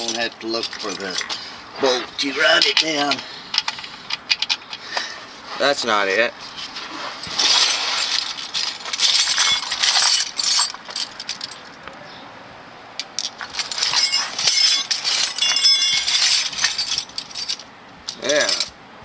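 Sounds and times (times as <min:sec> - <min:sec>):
metal wrenches clinking: 0:00.0 - 0:05.1, 0:06.6 - 0:11.8, 0:13.0 - 0:18.8.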